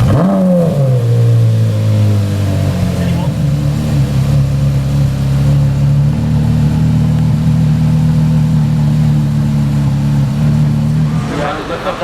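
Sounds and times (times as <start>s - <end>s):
sports car engine idling low: 0.0s - 12.0s.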